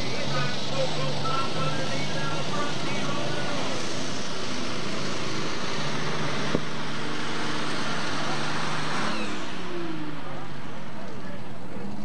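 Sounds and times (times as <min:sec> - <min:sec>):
tractor engine running flat out: 0:00.0 - 0:12.0.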